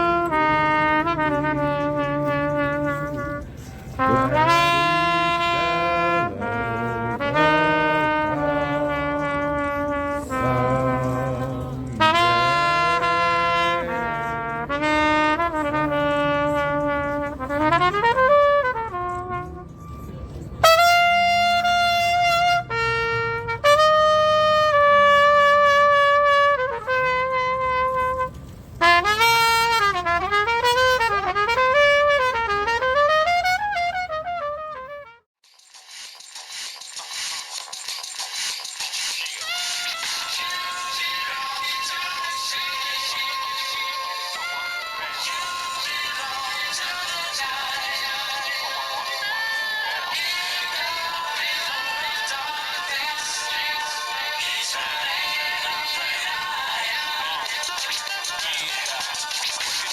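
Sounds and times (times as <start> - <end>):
trumpet playing slow melody: 0.0 - 35.3, 39.4 - 54.7.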